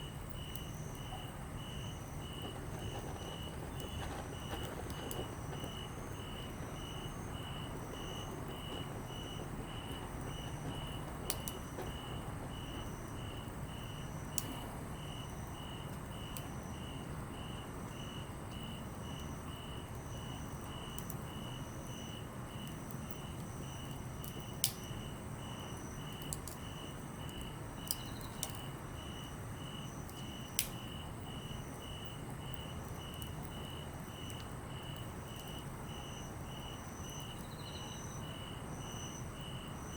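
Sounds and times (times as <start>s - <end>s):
insects chirping: 0.0s - 39.9s
campfire popping: 0.1s - 17.2s, 22.1s - 37.6s.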